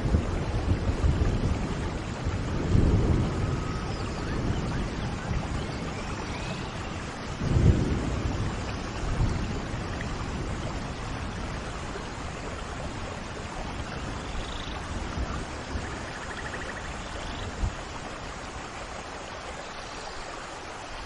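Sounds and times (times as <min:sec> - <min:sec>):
heavy rain hiss: 0:00.0 - 0:21.0.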